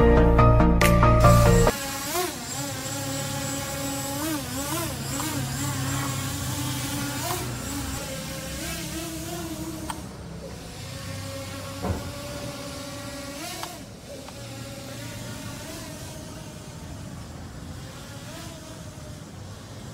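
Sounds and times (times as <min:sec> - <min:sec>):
drone propellers buzzing whine: 0:01.0 - 0:19.9.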